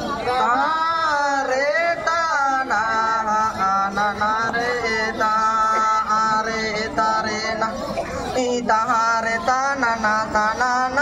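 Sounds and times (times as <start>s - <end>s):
men singing in long held notes: 0.0s - 11.0s.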